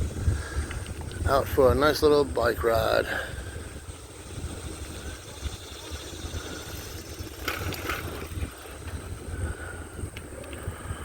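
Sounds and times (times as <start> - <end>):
bicycle road noise: 0.0 - 11.0
wind rumbling on microphone: 0.0 - 11.0.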